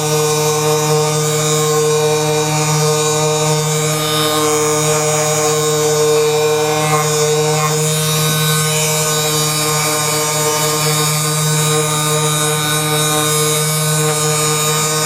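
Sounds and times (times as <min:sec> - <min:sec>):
electric motor buzzing: 0:00.0 - 0:15.0.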